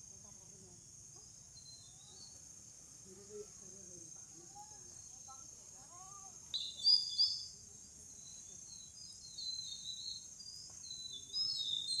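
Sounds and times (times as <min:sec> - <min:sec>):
insects droning: 0:00.0 - 0:12.0
small birds chirping: 0:01.1 - 0:12.0.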